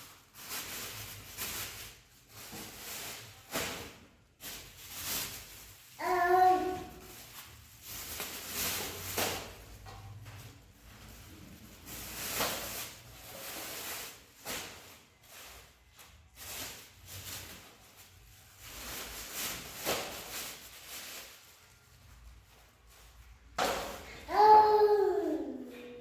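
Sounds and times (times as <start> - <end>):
household rustles and knocks: 0.0 - 5.8, 6.4 - 21.5, 22.3 - 24.3.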